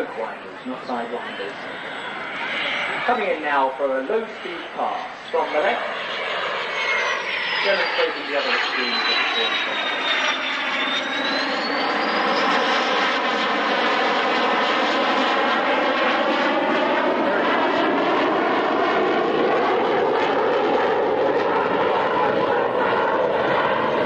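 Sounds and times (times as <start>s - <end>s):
aircraft engine flying low: 0.0s - 24.0s.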